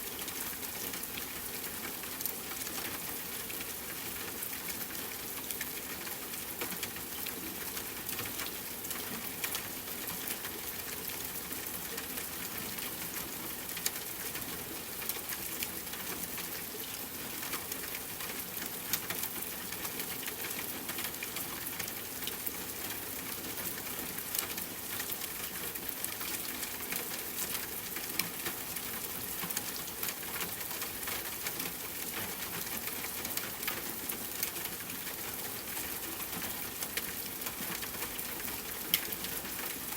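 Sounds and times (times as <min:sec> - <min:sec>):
rain on a tent: 0:00.0 - 0:39.9.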